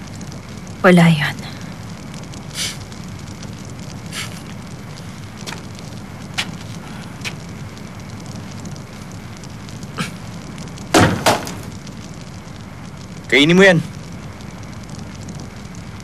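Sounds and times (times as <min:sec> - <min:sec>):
fire crackling and popping: 0:00.0 - 0:16.0
low hiss: 0:00.0 - 0:16.0.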